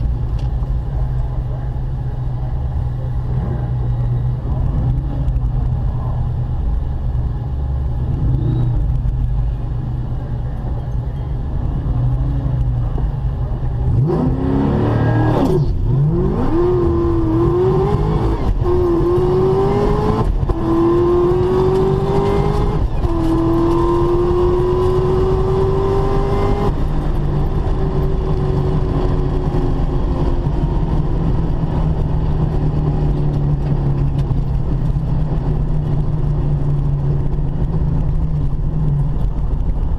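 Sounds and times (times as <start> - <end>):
car engine accelerating hard: 0.0 - 39.9
steady low rumble: 0.0 - 39.9.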